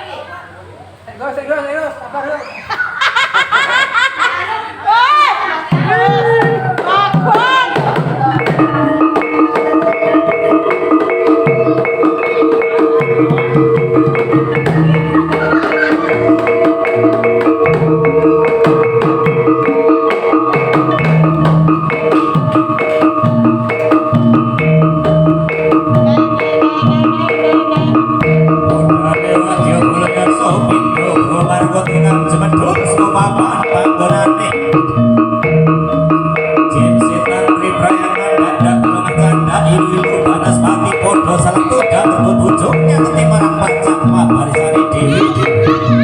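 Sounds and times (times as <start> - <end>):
low drum strokes: 5.7 - 46.0
tuned mallet percussion: 5.7 - 46.0.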